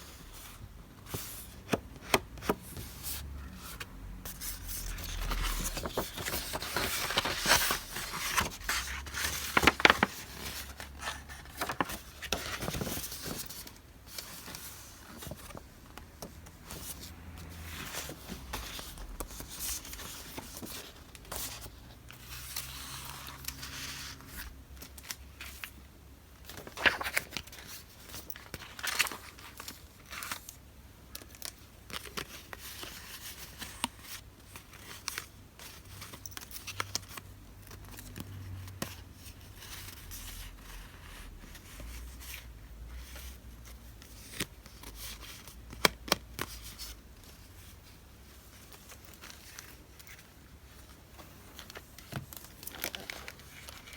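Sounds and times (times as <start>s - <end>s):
paper rustling and crinkling: 0.2s - 25.8s, 26.4s - 53.9s.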